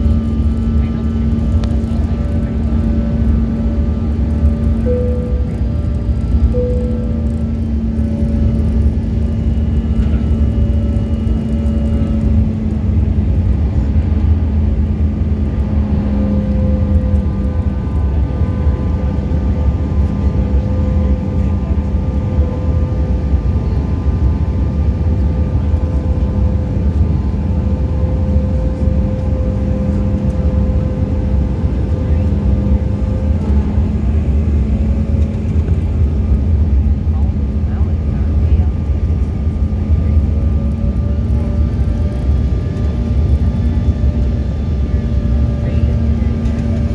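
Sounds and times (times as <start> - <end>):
constant engine hum: 0.0 - 46.9
jet engine and airflow rumble: 0.0 - 46.9.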